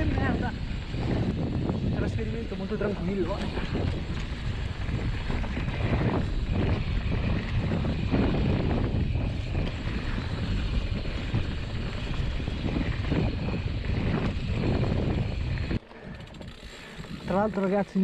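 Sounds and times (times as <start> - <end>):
wind buffeting microphone: 0.0 - 17.9
bike rattling: 0.0 - 18.0
bike tyres rumbling on dirt: 0.0 - 18.0.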